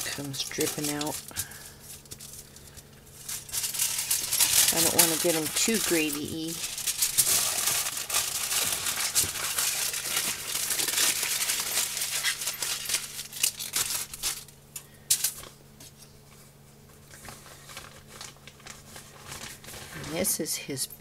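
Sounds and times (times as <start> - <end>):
aluminium foil crinkling: 0.0 - 20.9.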